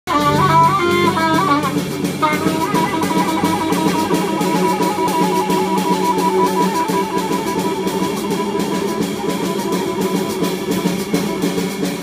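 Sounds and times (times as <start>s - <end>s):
busy drums: 0.1s - 12.0s
wavering reed line: 0.3s - 12.0s.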